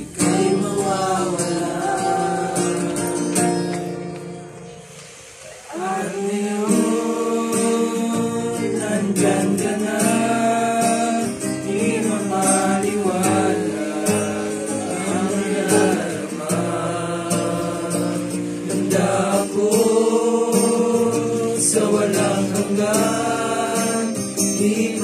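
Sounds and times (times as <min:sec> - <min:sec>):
young men singing together: 0:00.0 - 0:03.8, 0:05.6 - 0:25.0
strummed acoustic guitar: 0:00.0 - 0:25.0.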